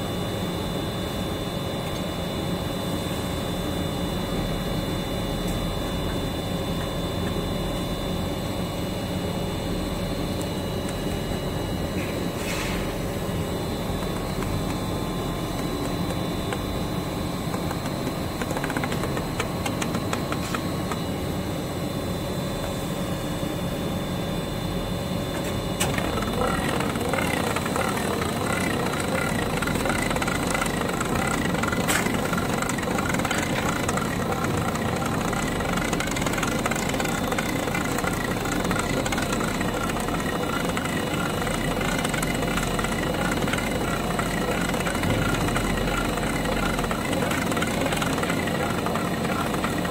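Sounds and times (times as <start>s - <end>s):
factory machinery hum: 0.0s - 49.9s
wrapping machine rhythmic whirring: 0.0s - 49.9s.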